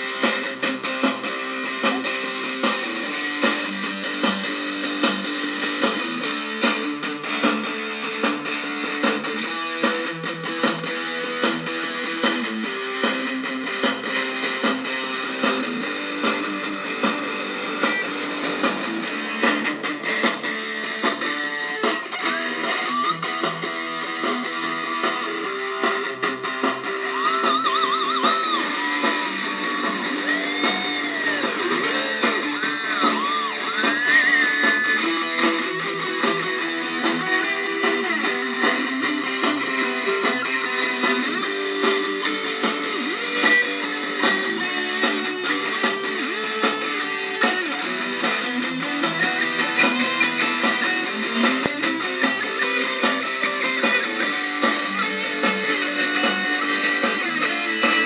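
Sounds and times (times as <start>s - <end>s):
electric guitar notes: 0.0s - 58.0s.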